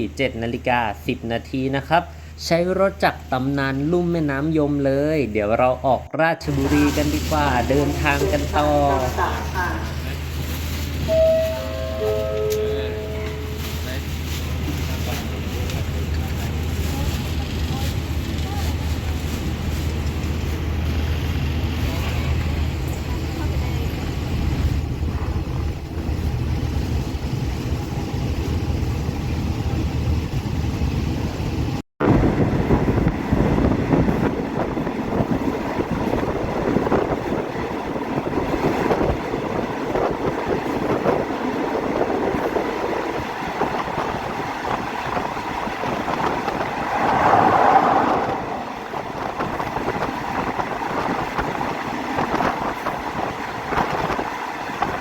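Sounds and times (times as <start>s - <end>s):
train wheels on rails: 6.5s - 30.5s, 32.4s - 55.0s
train low rumble on board: 6.5s - 55.0s.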